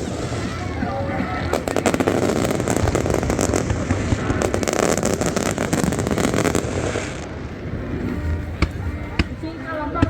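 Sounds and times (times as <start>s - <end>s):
continuous rumble: 0.0s - 10.0s
fireworks crackling and banging: 0.0s - 10.0s.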